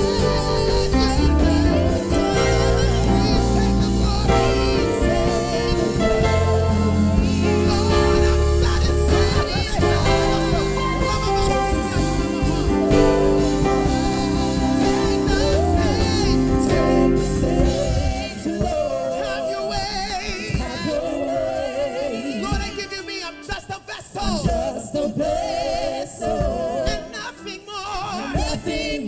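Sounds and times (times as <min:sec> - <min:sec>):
gospel band playing: 0:00.0 - 0:29.0
wordless singing voices: 0:00.0 - 0:29.0.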